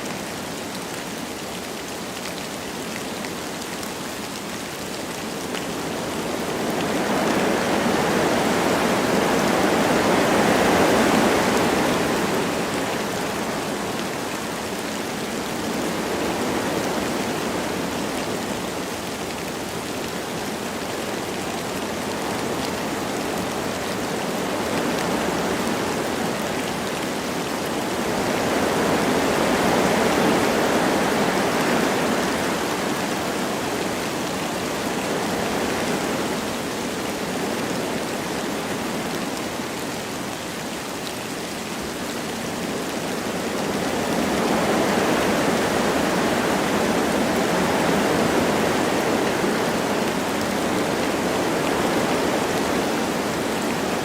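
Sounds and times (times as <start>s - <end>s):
light rain falling: 0.0s - 54.0s
wind through trees: 0.0s - 54.0s.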